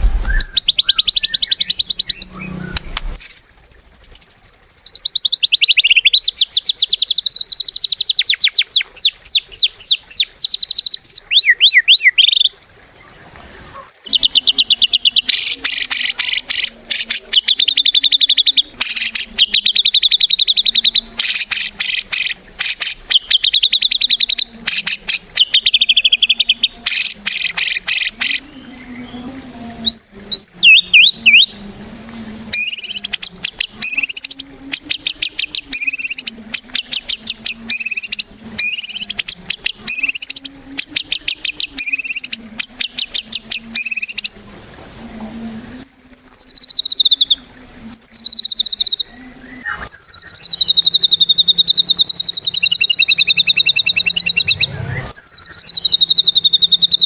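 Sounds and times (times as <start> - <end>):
songbird singing trills: 0.0 - 57.0.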